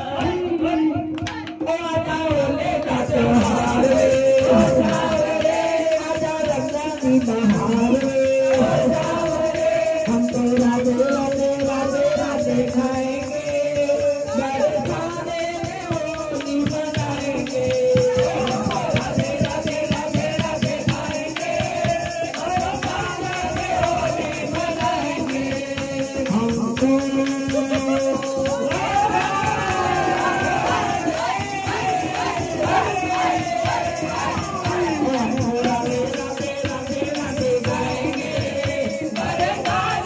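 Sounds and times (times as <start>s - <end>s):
person singing: 0.0s - 40.0s
jingling rattling percussion: 1.3s - 40.0s.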